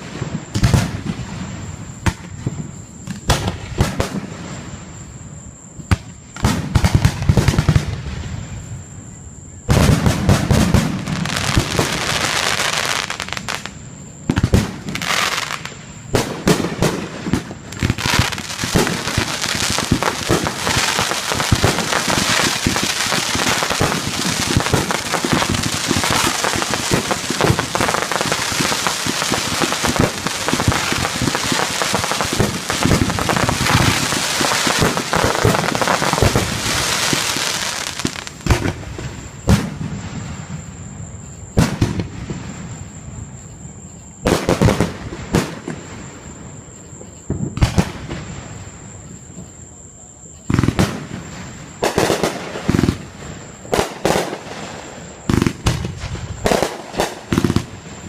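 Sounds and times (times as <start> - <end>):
firework bangs: 0.0 - 4.8, 9.6 - 43.5, 44.2 - 46.3, 50.5 - 58.0
fireworks crackling and popping: 0.0 - 8.6, 9.6 - 43.6, 44.2 - 46.3, 47.0 - 49.6, 50.4 - 58.0.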